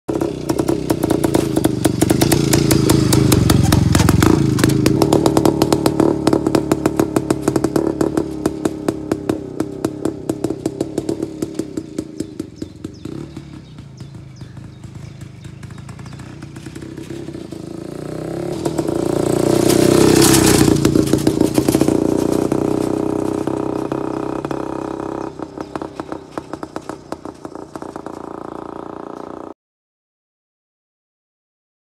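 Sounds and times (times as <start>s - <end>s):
two-stroke motorcycle riding past: 0.1s - 29.6s.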